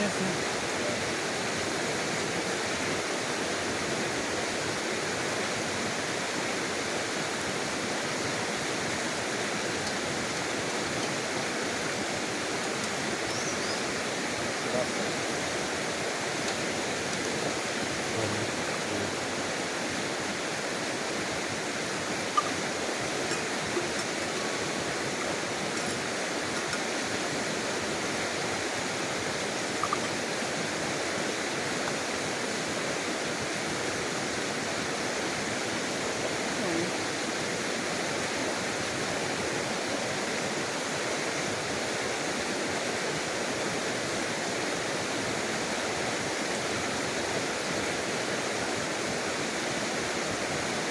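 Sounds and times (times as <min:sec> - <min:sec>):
stream flowing: 0:00.0 - 0:50.9.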